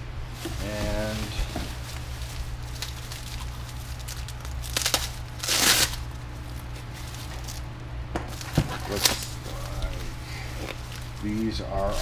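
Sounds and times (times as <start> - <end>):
steady low hum: 0.0 - 12.0
packaging crinkling: 0.3 - 12.0.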